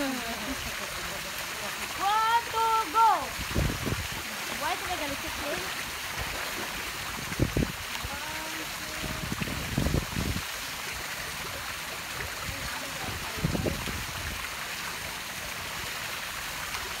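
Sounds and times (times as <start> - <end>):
sea water rushing: 0.0 - 17.0.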